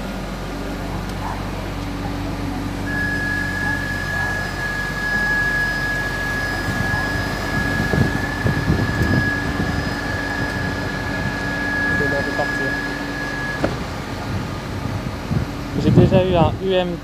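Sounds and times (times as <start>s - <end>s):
cooling fans whining: 0.0s - 17.0s
diesel train engines humming: 0.0s - 17.0s
low rumbling: 0.0s - 17.0s.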